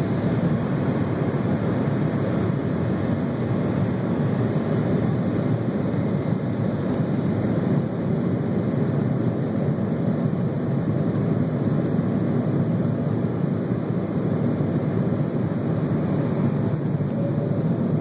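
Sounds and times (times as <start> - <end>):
jet engines rushing in cabin: 0.0 - 18.0.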